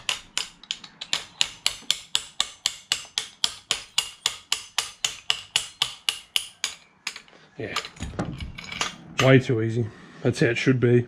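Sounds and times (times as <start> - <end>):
hammer tapping on metal: 0.0 - 9.4.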